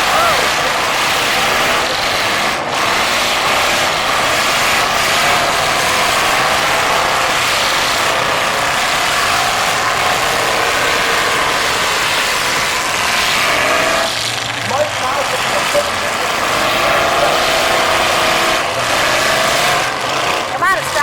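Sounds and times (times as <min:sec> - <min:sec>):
car engines revving together: 0:00.0 - 0:21.0.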